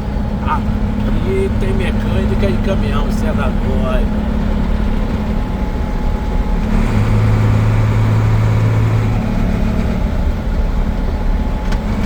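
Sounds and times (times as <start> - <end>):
road noise: 0.0 - 12.0
truck engine running: 0.0 - 12.0.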